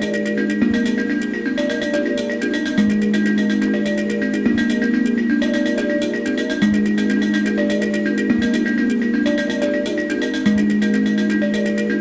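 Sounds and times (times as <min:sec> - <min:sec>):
instrumental electronic music: 0:00.0 - 0:12.0.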